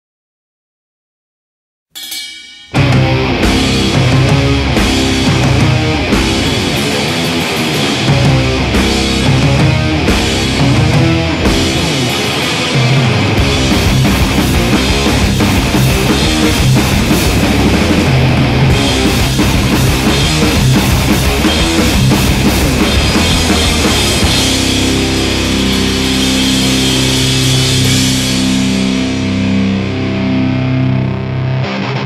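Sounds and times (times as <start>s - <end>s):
drum kit: 2.0s - 31.0s
rock guitar: 2.6s - 32.0s.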